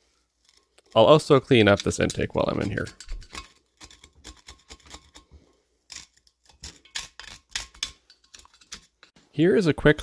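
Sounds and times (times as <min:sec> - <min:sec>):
screwdriver scraping carbon: 0:00.4 - 0:05.3, 0:05.9 - 0:09.2.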